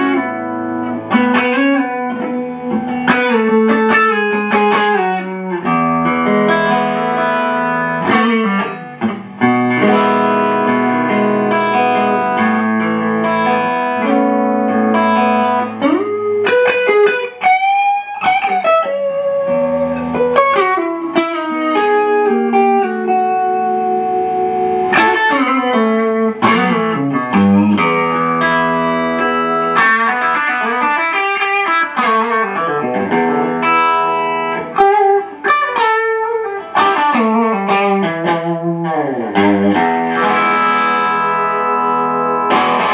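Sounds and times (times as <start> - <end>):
electric guitar chords and bends: 0.0 - 42.9.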